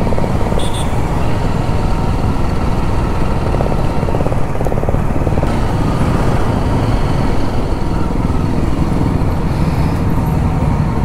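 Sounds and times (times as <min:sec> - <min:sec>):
motorcycle engine rumble: 0:00.0 - 0:11.0
road noise: 0:00.0 - 0:11.0.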